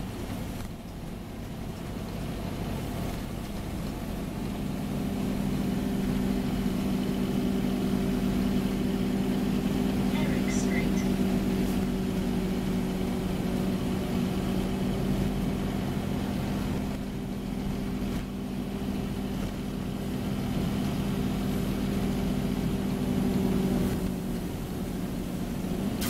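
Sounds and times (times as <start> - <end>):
bus diesel engine idling: 0.0 - 25.8.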